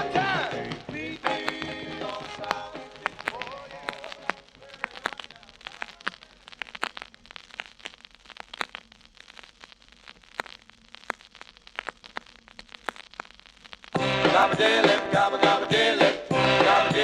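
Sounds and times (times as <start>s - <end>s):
faint hiss: 0.0s - 17.0s
vinyl clicks and pops: 0.0s - 17.0s.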